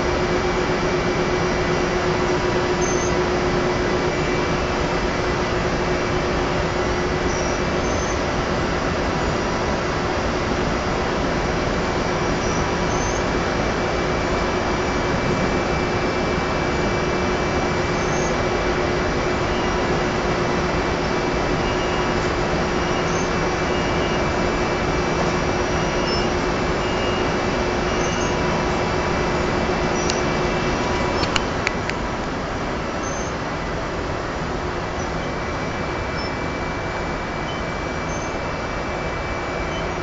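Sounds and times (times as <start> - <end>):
machinery humming: 0.0 - 40.0.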